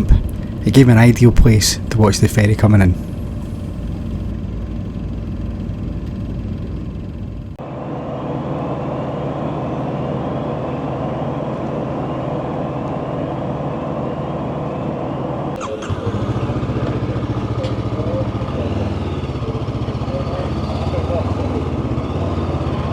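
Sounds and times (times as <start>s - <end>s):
vehicle engine idling: 0.0s - 22.9s.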